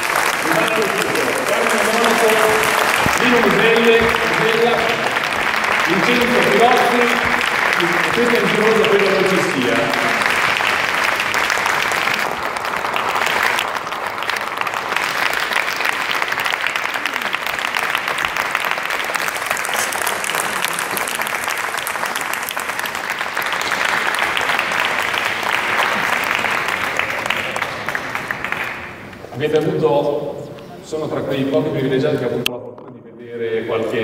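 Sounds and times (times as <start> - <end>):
crowd applause: 0.0 - 29.4.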